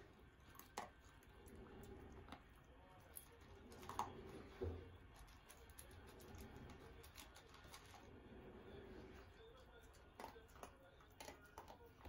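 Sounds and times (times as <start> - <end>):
dogs crunching and licking: 0.0 - 4.5, 5.1 - 8.1, 9.4 - 12.0.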